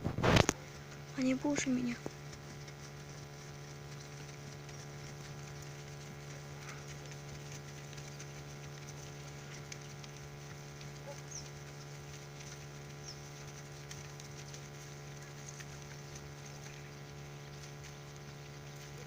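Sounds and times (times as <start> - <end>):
low hum with overtones: 0.0 - 19.0.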